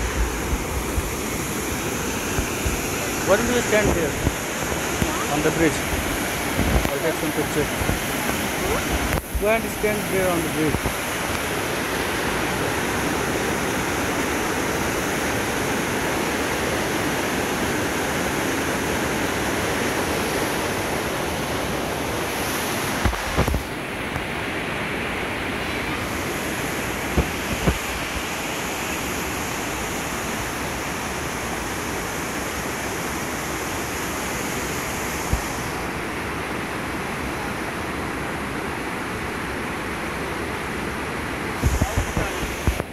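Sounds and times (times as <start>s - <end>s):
waterfall rushing over rocks: 0.0s - 42.9s.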